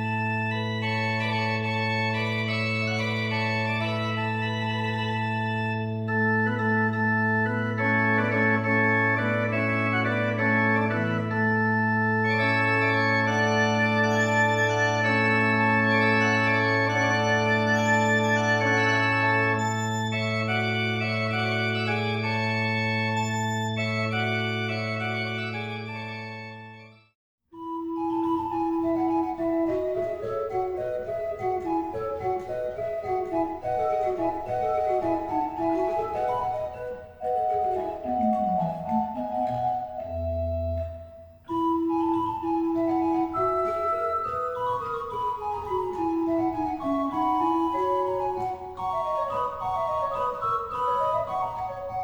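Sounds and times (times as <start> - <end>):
pipe organ music: 0.0 - 52.0.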